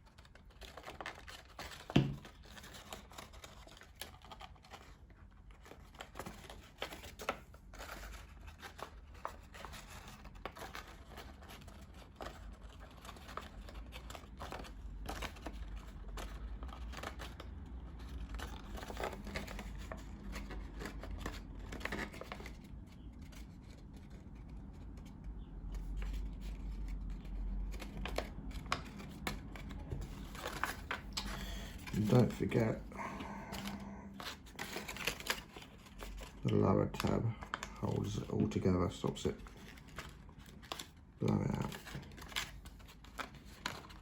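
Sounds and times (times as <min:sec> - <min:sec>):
paper rustling and crinkling: 0:00.0 - 0:44.0.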